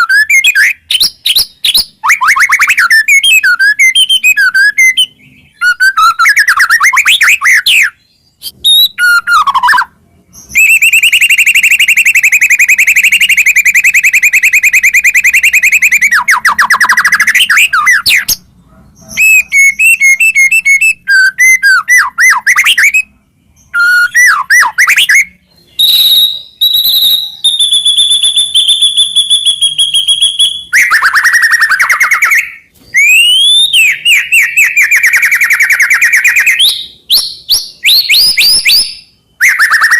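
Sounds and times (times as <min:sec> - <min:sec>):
bird singing whistled phrases: 0:00.0 - 0:18.4, 0:19.0 - 0:39.9.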